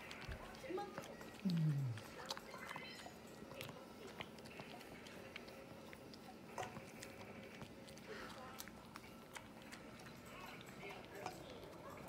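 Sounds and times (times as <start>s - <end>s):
dog chewing: 0.0s - 12.0s.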